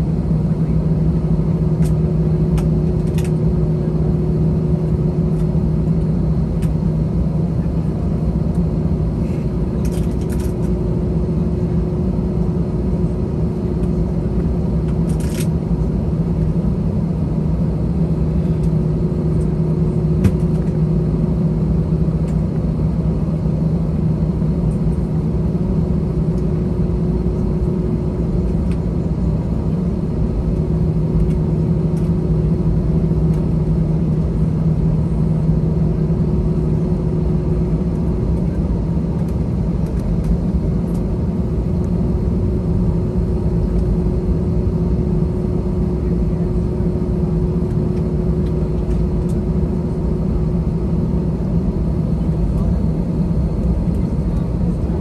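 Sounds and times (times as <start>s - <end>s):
jet engines idling in cabin: 0.0s - 55.0s.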